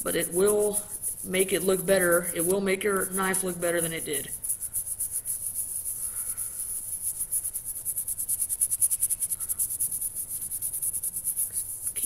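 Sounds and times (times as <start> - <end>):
brush scrubbing metal blade: 0.0 - 12.0.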